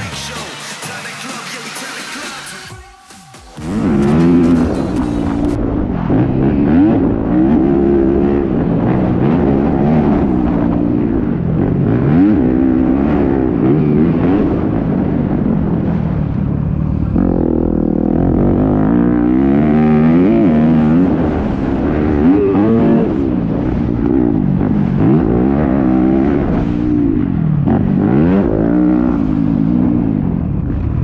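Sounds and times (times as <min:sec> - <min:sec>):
motocross engine revving: 0:03.5 - 0:31.0.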